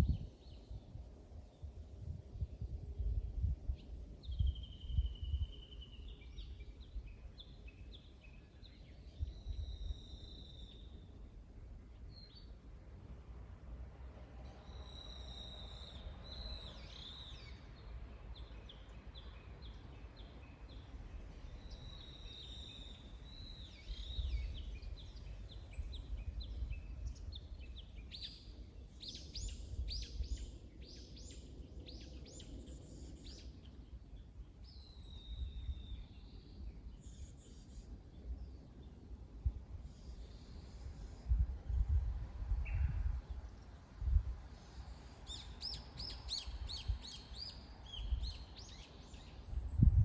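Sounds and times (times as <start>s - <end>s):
songbirds singing: 0.0s - 12.7s, 14.4s - 50.0s.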